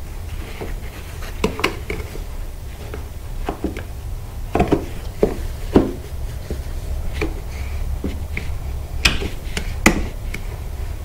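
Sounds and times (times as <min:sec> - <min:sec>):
steady low hum: 0:00.0 - 0:11.0
hands rubbing and tapping decal: 0:00.3 - 0:03.9, 0:04.5 - 0:10.6.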